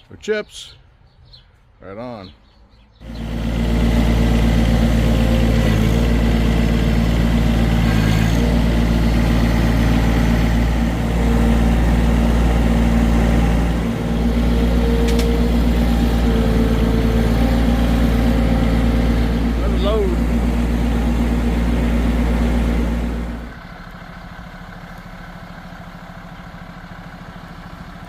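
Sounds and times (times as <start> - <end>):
tractor diesel engine running: 2.0 - 28.0.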